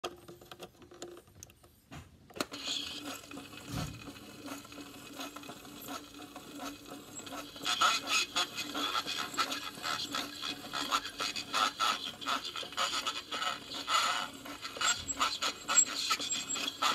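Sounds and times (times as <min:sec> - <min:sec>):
lo-fi record playback: 0:00.0 - 0:16.9.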